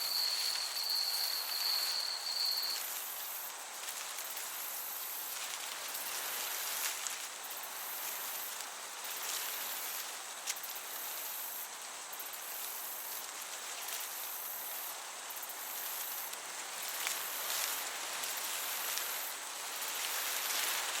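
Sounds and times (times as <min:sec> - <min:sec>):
breeze hiss: 0:00.0 - 0:21.0
crickets chirping: 0:00.0 - 0:21.0.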